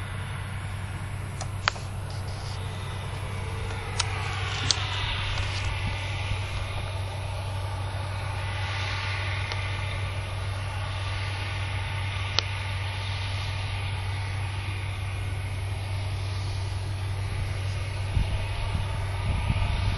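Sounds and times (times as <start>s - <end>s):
harvester engine humming: 0.0s - 19.9s.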